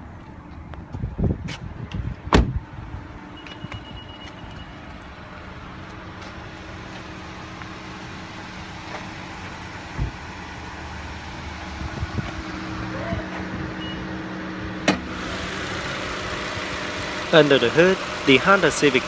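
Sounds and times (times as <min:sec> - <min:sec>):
car engine idling: 0:02.7 - 0:19.0.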